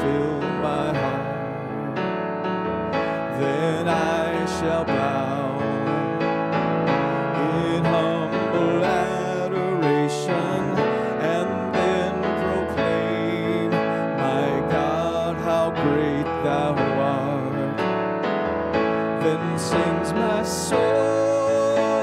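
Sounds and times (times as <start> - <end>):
man singing: 0.0 - 22.0
piano keyboard accompaniment: 0.0 - 22.0.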